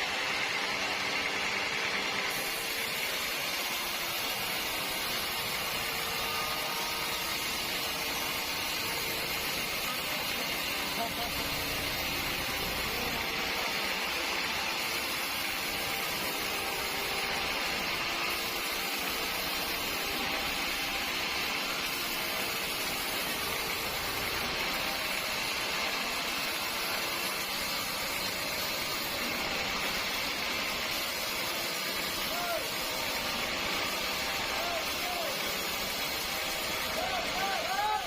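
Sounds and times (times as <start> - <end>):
machinery hiss: 2.3 - 38.0.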